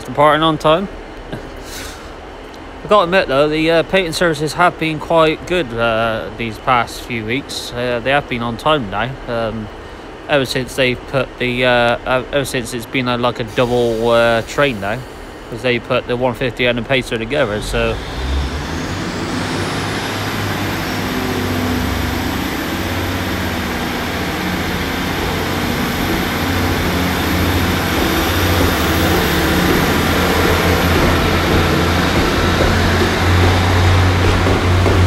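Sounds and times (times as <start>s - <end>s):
diesel train engines humming: 0.0s - 35.0s.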